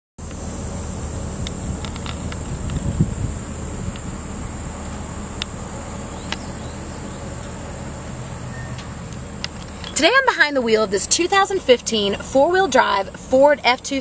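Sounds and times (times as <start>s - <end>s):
insects trilling: 0.2s - 14.0s
low steady rumble: 0.2s - 14.0s.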